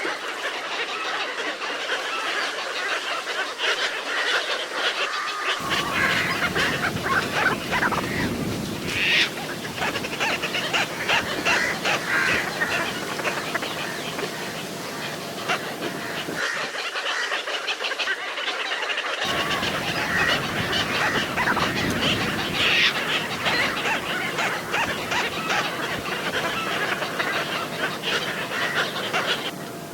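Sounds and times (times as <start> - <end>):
cormorants honking and cackling: 0.0 - 29.9.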